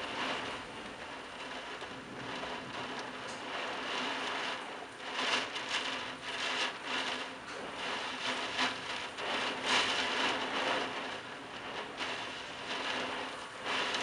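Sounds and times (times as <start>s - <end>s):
strong gusting wind: 0.0s - 14.0s
torrential rain: 0.0s - 14.0s.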